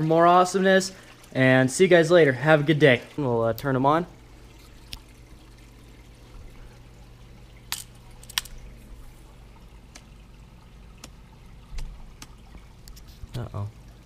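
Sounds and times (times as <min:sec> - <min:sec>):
low steady hum: 0:00.0 - 0:14.0
water trickling from aquarium filter: 0:00.0 - 0:14.0.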